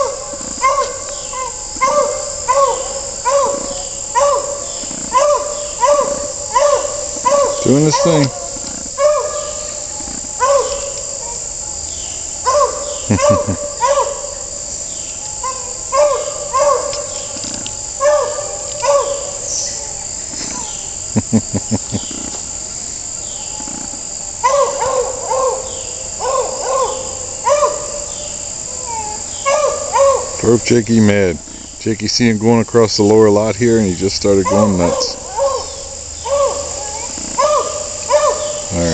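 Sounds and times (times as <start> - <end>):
distant dog baying: 0.0 - 11.7, 12.3 - 14.6, 15.2 - 20.8, 24.4 - 31.6, 33.8 - 38.9
crickets chirping: 0.0 - 38.9.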